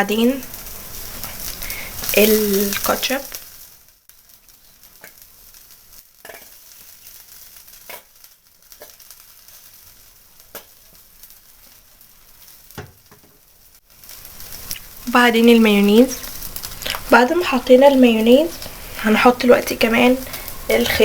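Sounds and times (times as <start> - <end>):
bread sizzling on a hot pan: 0.0 - 21.0.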